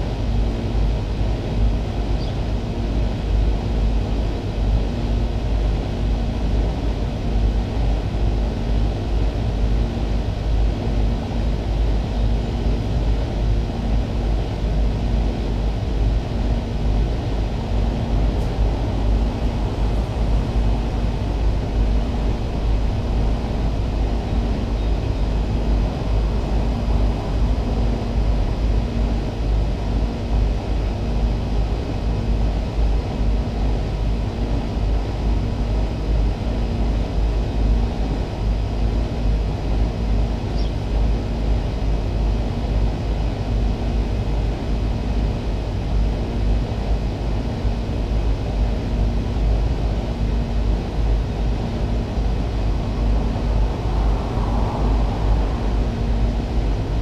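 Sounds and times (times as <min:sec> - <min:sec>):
compressor hum: 0:00.0 - 0:57.0
fan rush: 0:00.0 - 0:57.0.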